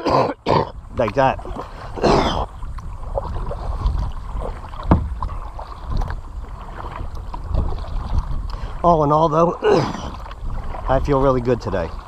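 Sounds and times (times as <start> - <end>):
paddle splashing in water: 0.0 - 12.0.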